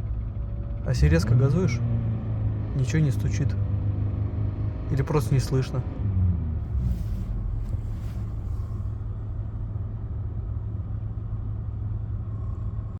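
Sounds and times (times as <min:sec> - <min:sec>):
car engine low rumble: 0:00.0 - 0:12.9.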